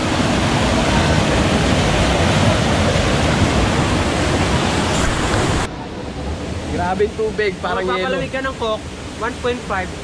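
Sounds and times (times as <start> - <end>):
stream water rushing over boulders: 0.0 - 10.0.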